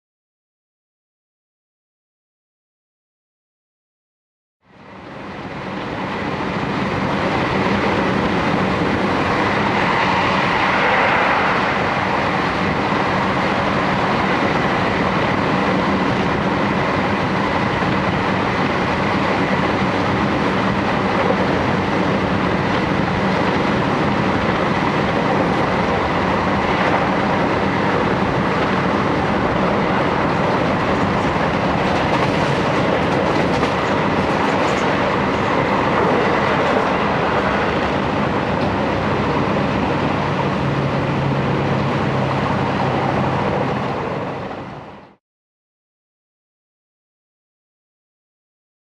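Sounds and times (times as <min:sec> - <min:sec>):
train wheels rolling on rails: 0:05.4 - 0:45.0.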